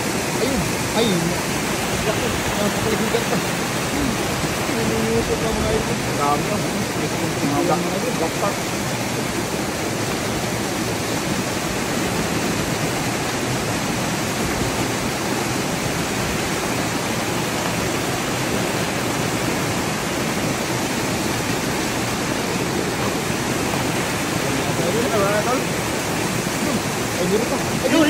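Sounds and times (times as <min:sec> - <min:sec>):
water pouring over cascade: 0:00.0 - 0:28.0.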